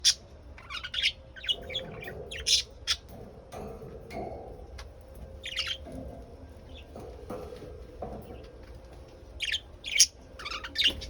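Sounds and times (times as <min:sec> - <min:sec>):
lovebirds squawking and chirping: 0:00.0 - 0:03.2, 0:04.1 - 0:11.0.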